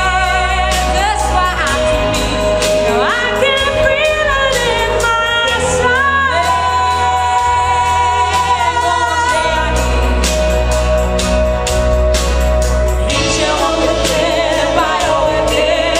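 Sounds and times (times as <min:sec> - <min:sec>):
song with sung vocals: 0:00.0 - 0:15.9.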